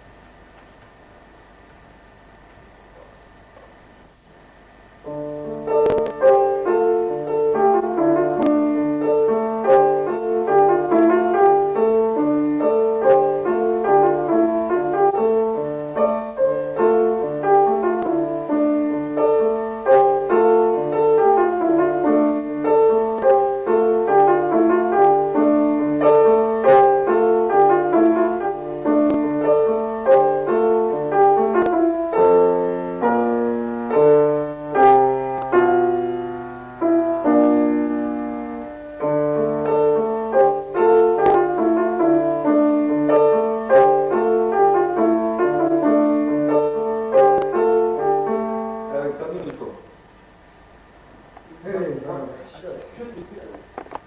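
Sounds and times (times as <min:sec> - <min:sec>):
keyboard playing melody: 0:05.0 - 0:49.3.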